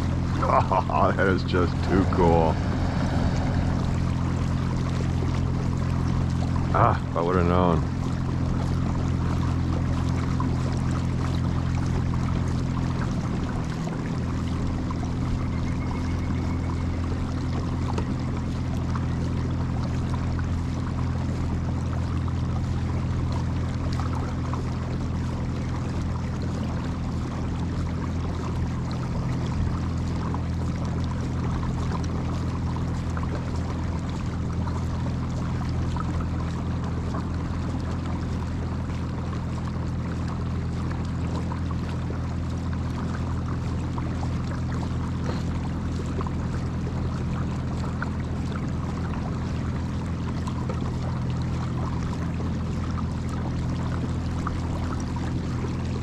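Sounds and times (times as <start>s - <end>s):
water washing along hull: 0.0s - 56.0s.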